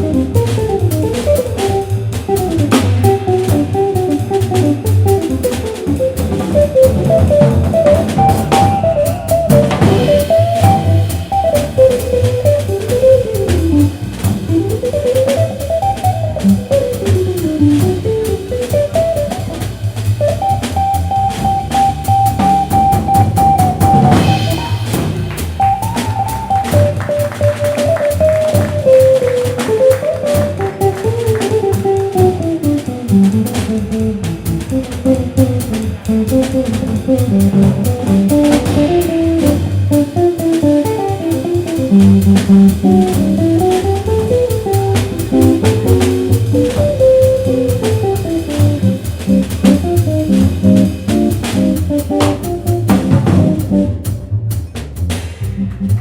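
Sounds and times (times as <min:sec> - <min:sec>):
drum kit playing swing: 0:00.0 - 0:56.0
jazz guitar solo: 0:00.0 - 0:56.0
walking double bass: 0:00.0 - 0:56.0.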